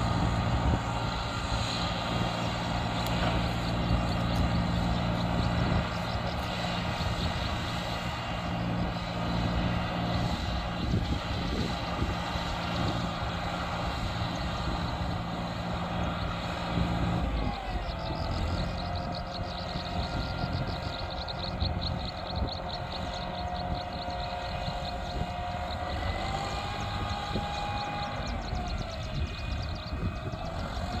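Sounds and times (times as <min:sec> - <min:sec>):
heavy diesel engine rumbling: 0:00.0 - 0:31.0.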